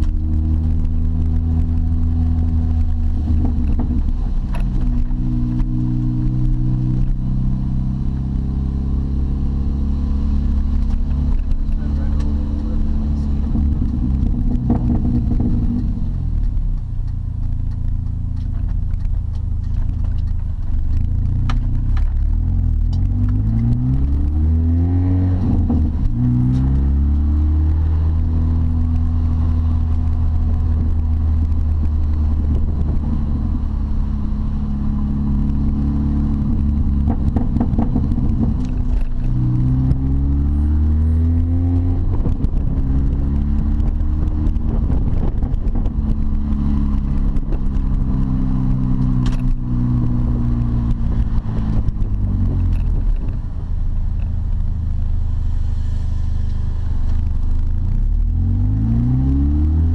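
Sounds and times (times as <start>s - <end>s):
car engine revving through gears: 0.0s - 53.5s, 54.4s - 59.9s.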